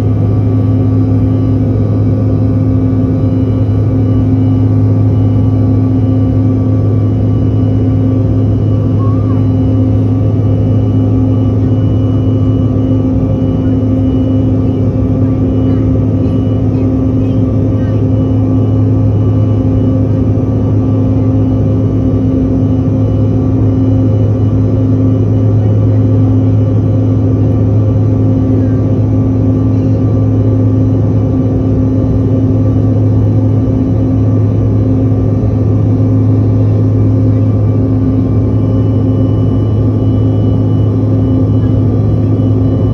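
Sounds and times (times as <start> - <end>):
jet engines and airflow drone: 0.0 - 42.9.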